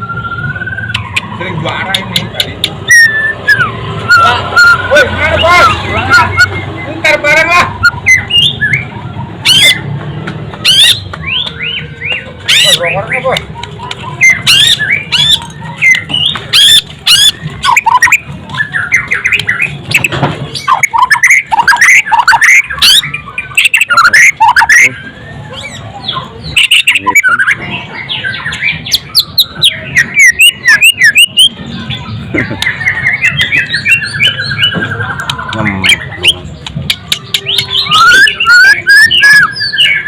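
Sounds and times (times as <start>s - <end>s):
songbird whistling and chirping: 0.0s - 40.0s.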